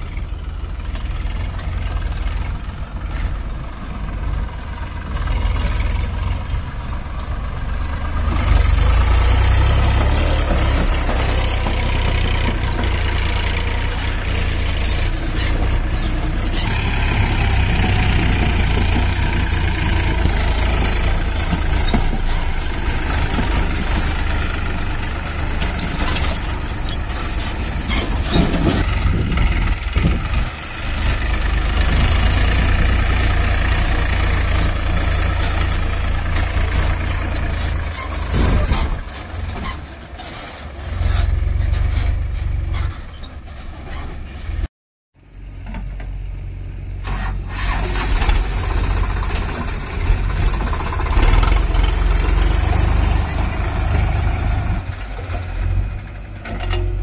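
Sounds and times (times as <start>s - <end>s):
diesel engine running: 0.0s - 44.6s, 45.2s - 57.0s.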